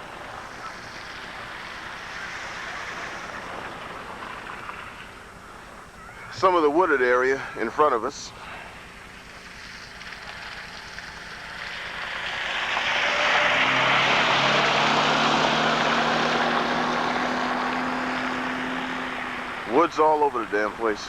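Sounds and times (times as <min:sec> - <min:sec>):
steady low hum: 0:00.0 - 0:13.0, 0:13.6 - 0:21.0
aircraft engine passing: 0:00.0 - 0:21.0.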